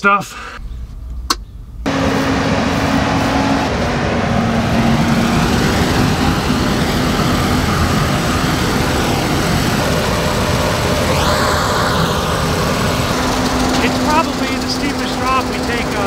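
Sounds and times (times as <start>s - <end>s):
combine harvester droning: 0.6s - 16.0s.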